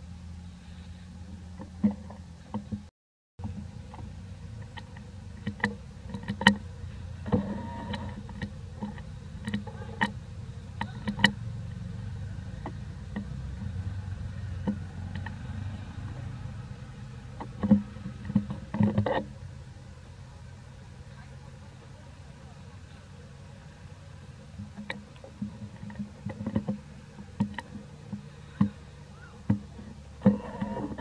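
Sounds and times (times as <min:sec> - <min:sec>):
steady low rumble: 0:00.0 - 0:30.2
crackling rustles: 0:00.0 - 0:31.0.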